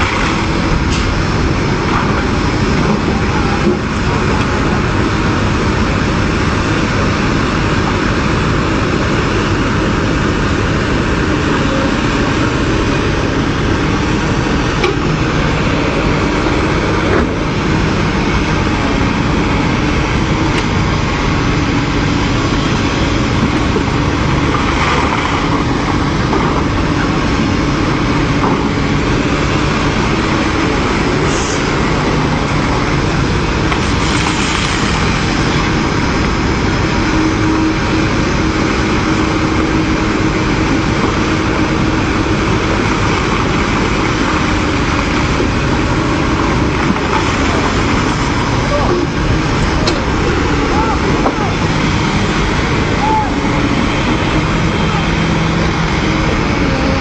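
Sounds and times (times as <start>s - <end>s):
loud rush of noise: 0.0s - 57.0s
vehicle engine running: 0.0s - 57.0s.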